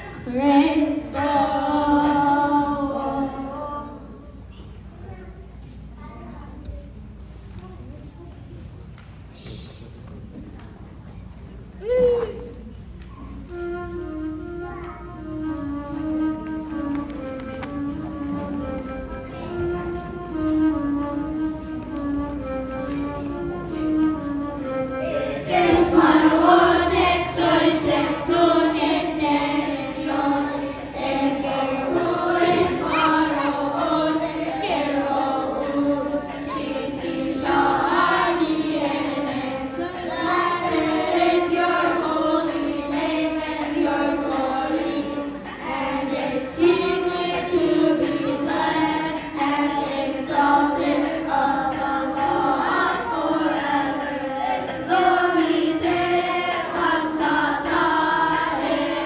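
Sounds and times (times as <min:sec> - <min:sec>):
children's choir singing a hymn: 0:00.0 - 0:05.8, 0:13.0 - 0:59.0.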